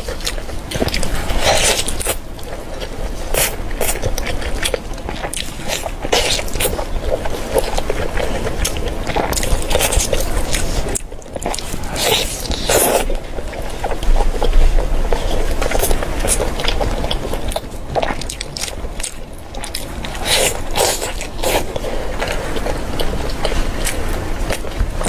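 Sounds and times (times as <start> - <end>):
close-miked biting and chewing: 0.0 - 25.0.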